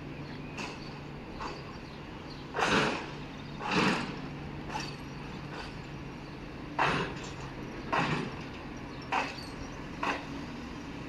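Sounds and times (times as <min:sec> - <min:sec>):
diesel machine humming: 0:00.0 - 0:11.0.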